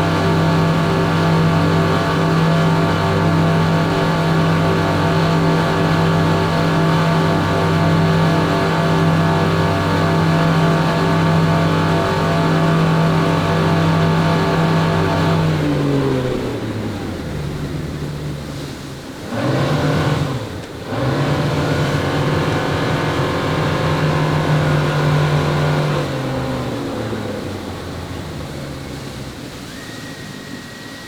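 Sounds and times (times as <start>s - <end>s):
boat engines running: 0.0s - 31.0s.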